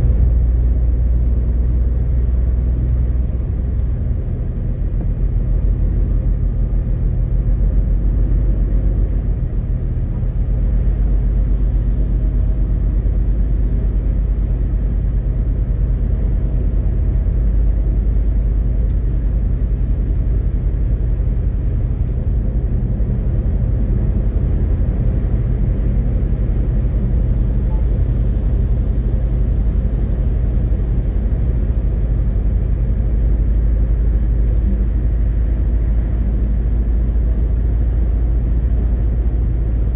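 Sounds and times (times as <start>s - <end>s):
road rumble: 0.0s - 39.9s
truck diesel engine droning: 0.0s - 39.9s.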